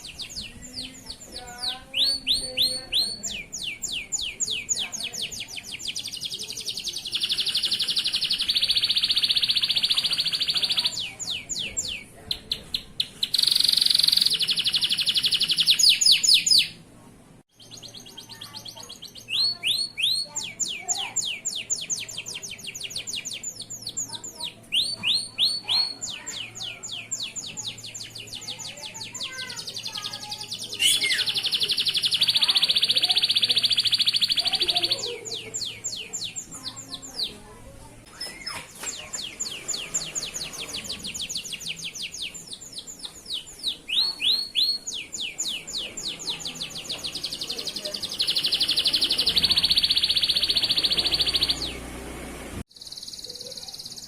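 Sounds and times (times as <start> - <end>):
canary singing: 0.0 - 16.8, 17.5 - 54.0.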